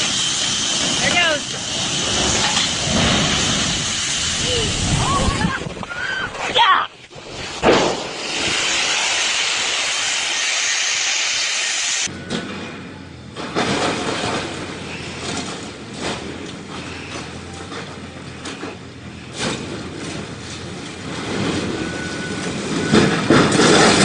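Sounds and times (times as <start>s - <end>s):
excavator engine rumble: 0.0s - 24.0s.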